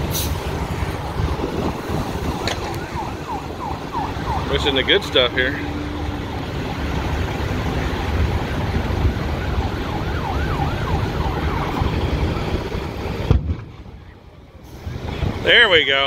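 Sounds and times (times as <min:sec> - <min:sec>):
fire truck siren yelping: 0:00.0 - 0:15.5.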